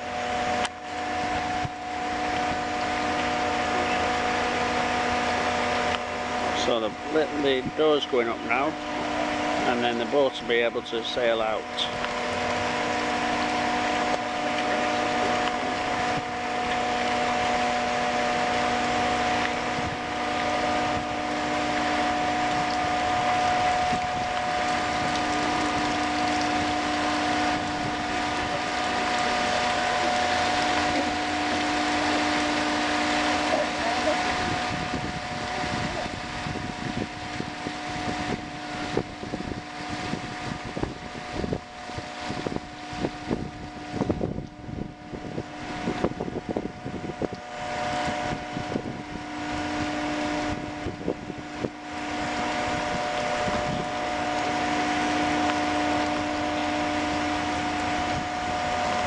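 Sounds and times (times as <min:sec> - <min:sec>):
gate machinery humming: 0:00.0 - 0:59.0
water splashing: 0:00.0 - 0:59.0.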